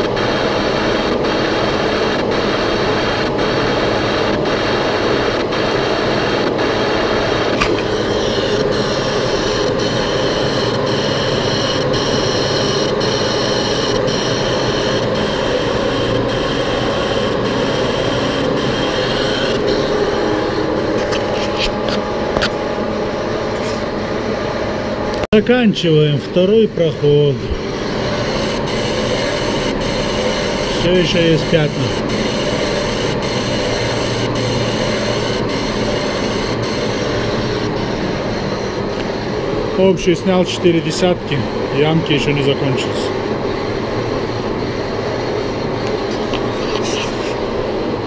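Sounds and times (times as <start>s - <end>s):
boring machine cutting: 0.0s - 48.0s
steady high tone: 0.0s - 48.0s.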